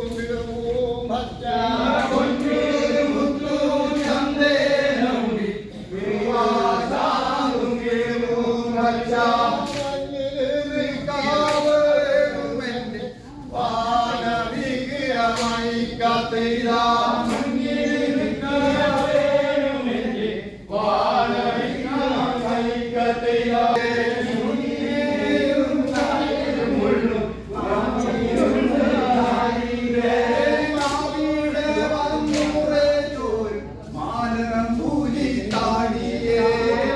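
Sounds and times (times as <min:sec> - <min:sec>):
men chanting in unison: 0:00.0 - 0:36.9.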